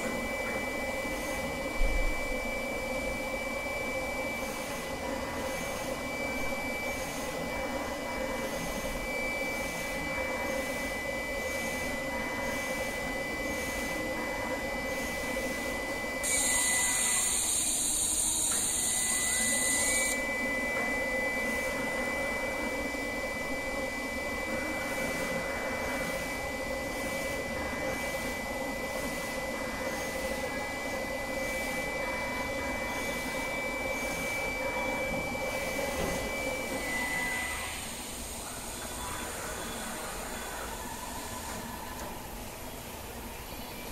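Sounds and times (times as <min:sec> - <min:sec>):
machine mechanical hum with whine: 0:00.0 - 0:43.9.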